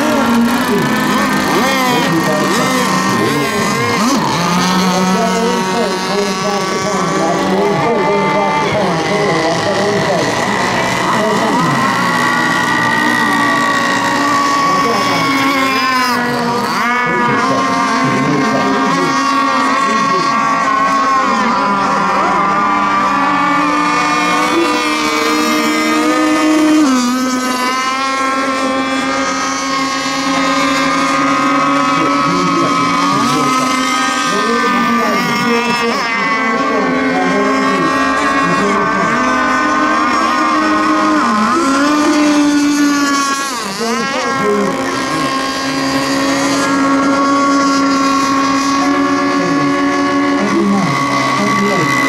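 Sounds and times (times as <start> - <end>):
model boat engine whine: 0.0 - 52.0.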